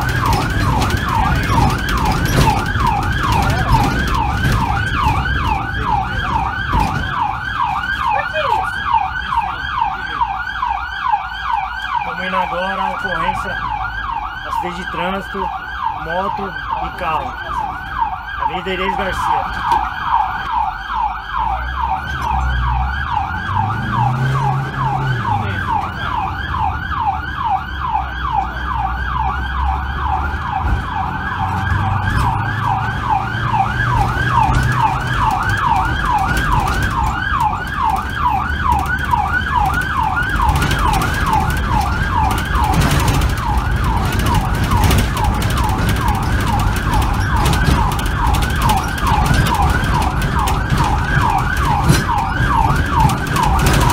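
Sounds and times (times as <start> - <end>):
siren in fast yelp: 0.0 - 53.9
van engine and road rumble: 0.0 - 53.9.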